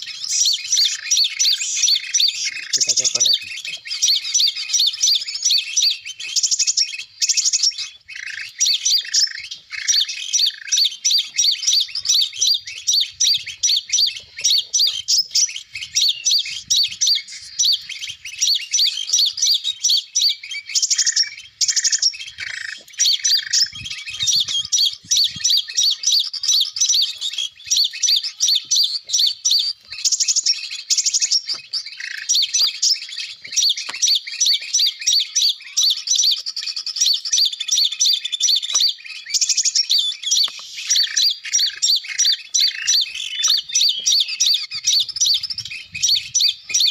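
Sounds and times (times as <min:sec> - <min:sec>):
rapid bird chirps: 0:00.0 - 0:46.9.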